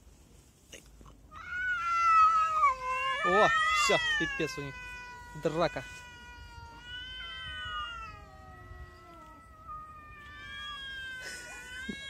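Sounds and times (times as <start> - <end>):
cats yowling: 1.3 - 12.0.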